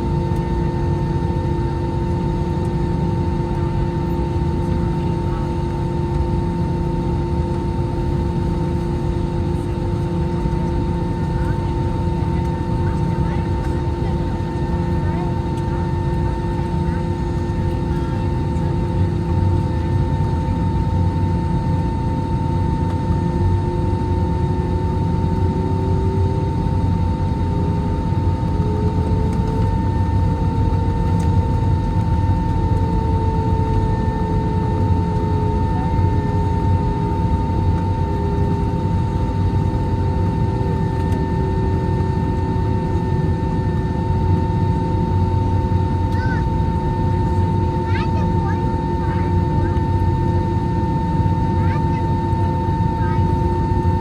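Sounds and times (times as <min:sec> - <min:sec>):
jet engine hum with high whine: 0:00.0 - 0:54.0.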